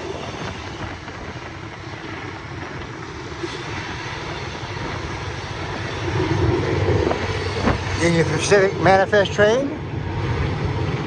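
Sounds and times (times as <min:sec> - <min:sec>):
diesel locomotives droning: 0:00.0 - 0:11.0
wind noise: 0:00.0 - 0:11.0.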